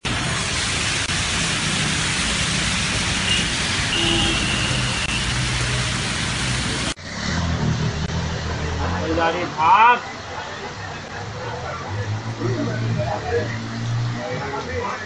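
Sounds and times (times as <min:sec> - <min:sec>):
cars on wet road: 0:00.0 - 0:15.0
heavy rain on a street: 0:00.0 - 0:15.0.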